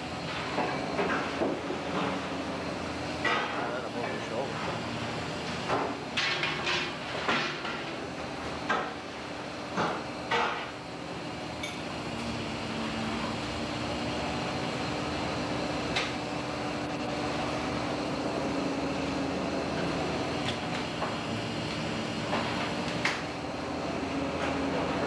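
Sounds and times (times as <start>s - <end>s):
boat engine and machinery hum: 0.0s - 25.0s.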